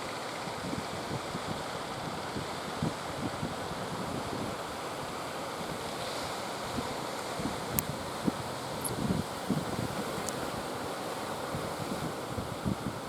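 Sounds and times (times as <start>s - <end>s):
sea surf: 0.0s - 13.0s
wind buffeting microphone: 0.6s - 13.0s.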